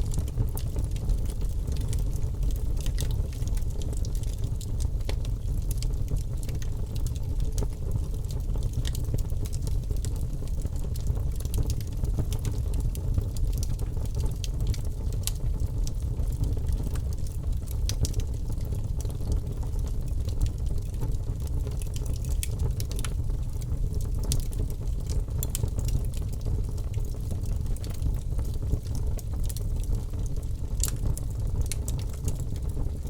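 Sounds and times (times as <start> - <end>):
low fire rumble: 0.0 - 33.0
logs crackling and popping: 0.1 - 33.0.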